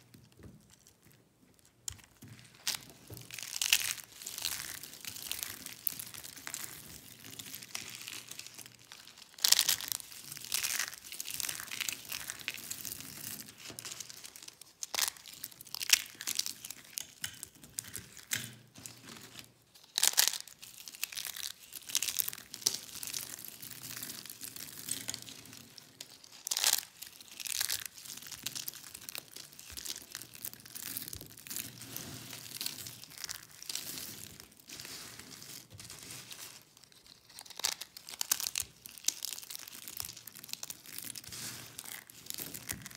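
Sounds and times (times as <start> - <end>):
soap shards crunching: 1.9 - 18.4, 19.9 - 42.9.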